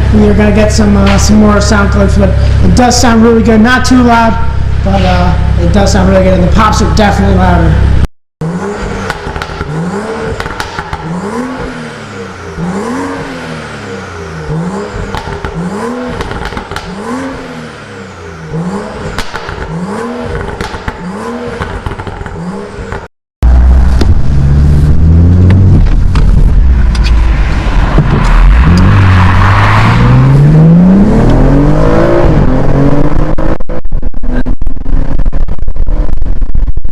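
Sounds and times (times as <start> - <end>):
car engine revving: 0.0 - 36.7
deep engine accelerating: 0.0 - 36.9.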